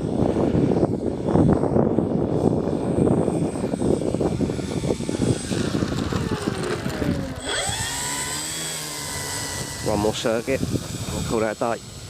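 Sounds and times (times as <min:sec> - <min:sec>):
model plane motor whine: 0:00.0 - 0:12.0
wind buffeting microphone: 0:00.0 - 0:12.0.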